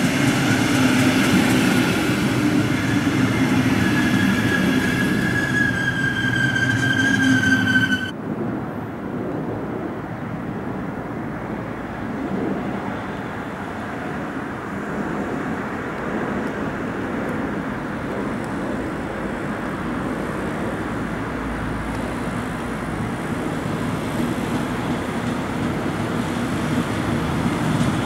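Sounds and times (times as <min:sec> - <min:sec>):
train passing with high whine: 0:00.0 - 0:28.0.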